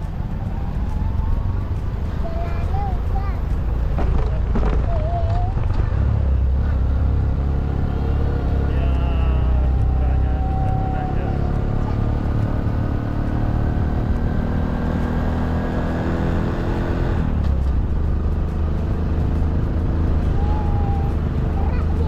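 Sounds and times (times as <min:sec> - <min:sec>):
road rumble: 0:00.0 - 0:22.0
vehicle engine running: 0:00.0 - 0:22.0.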